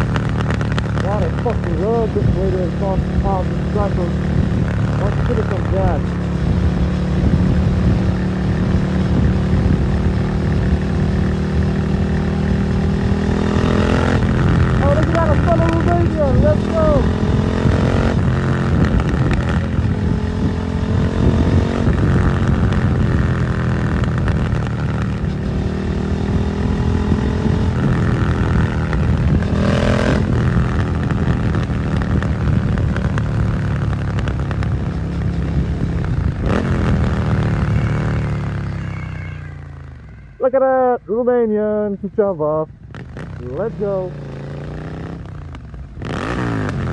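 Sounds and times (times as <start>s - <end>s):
motorcycle accelerating through gears: 0.0s - 40.1s, 42.7s - 46.9s.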